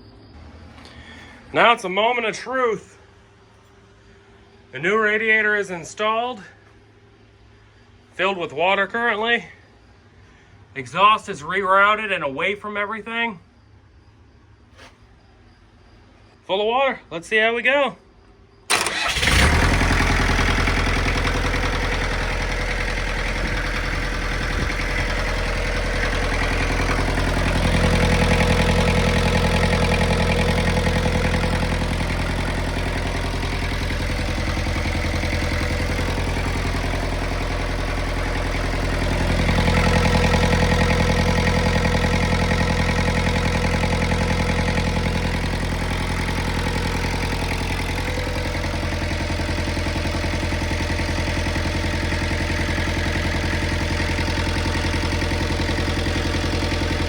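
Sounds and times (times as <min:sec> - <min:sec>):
diesel engine starting and running: 0:00.0 - 0:16.4, 0:18.2 - 0:57.0.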